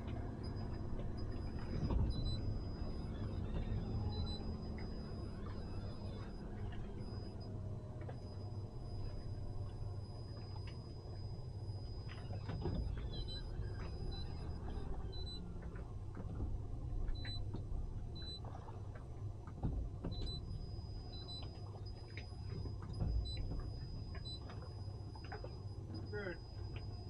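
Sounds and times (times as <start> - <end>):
boat engine idling: 0.0 - 27.0
knocks and clunks from boats: 0.0 - 27.0.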